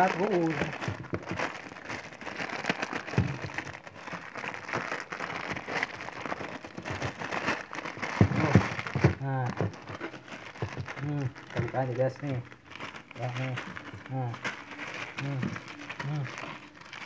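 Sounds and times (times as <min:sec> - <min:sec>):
plastic packet crinkling: 0:00.0 - 0:17.0.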